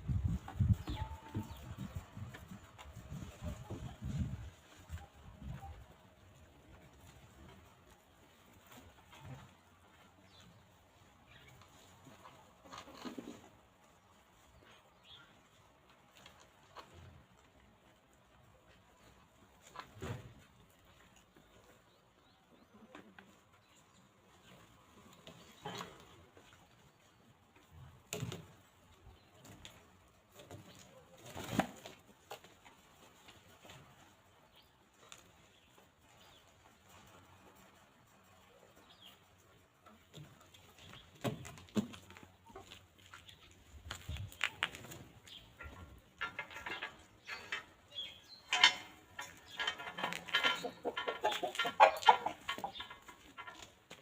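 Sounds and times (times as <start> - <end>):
chickens clucking: 0.0 - 54.0
chickens pecking and scuffling: 0.0 - 54.0.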